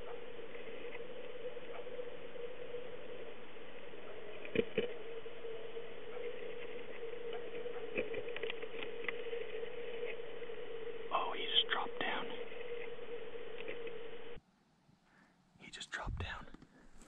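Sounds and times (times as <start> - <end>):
camera electronic hum: 0.0 - 14.4.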